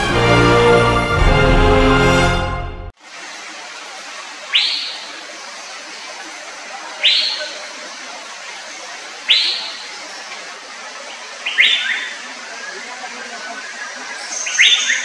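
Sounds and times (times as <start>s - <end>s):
steady forest hiss: 3.0s - 15.0s.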